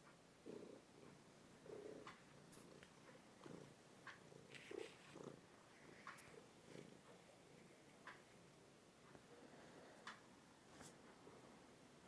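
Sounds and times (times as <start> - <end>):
cat purring: 0.4 - 10.1.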